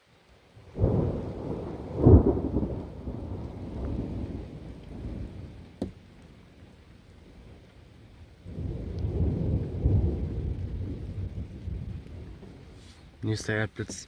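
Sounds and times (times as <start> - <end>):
thunder crack and rumble: 0.6 - 12.8.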